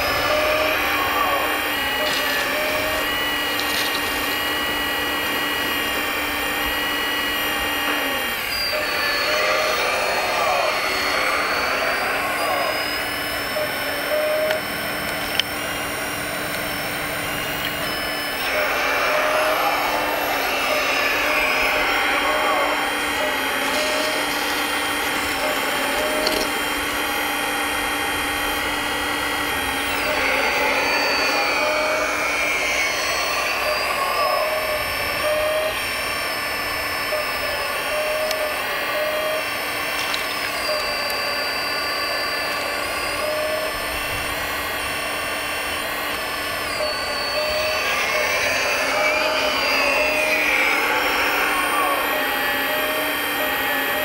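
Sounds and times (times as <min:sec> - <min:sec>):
hydraulic excavator whining: 0:00.0 - 0:54.0.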